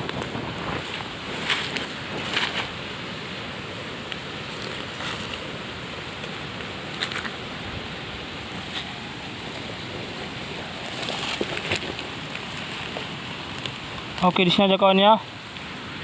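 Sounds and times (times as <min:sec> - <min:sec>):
rustling crackles: 0:00.0 - 0:14.9
steady rushing noise: 0:00.0 - 0:16.0.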